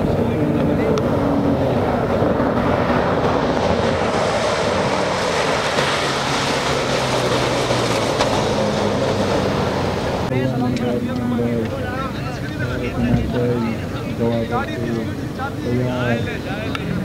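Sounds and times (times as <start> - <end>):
car engine at speed: 0.0 - 17.0.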